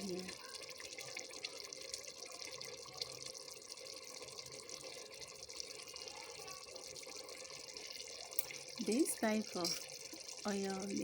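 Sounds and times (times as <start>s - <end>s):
liquid trickling and dripping: 0.0s - 11.0s.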